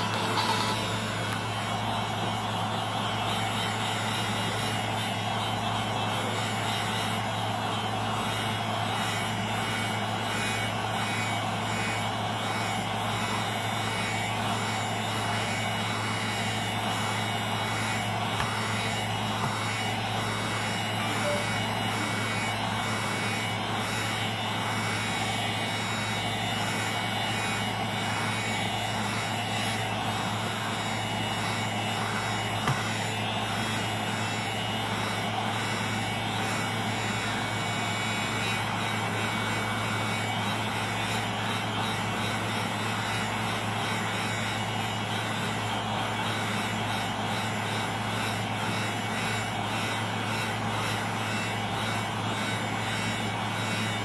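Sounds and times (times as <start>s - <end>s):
heat gun blowing: 0.0s - 54.0s.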